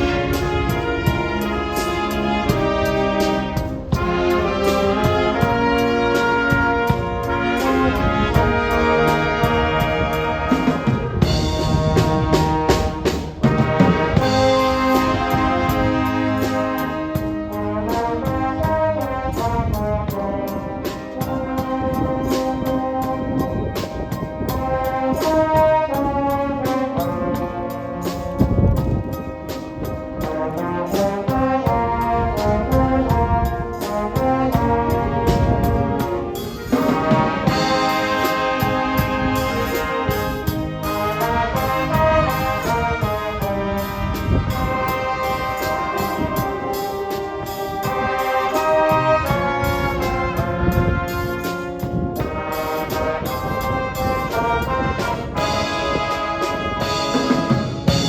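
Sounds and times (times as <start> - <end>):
brass band playing: 0.0 - 58.0
percussion beat: 0.0 - 58.0.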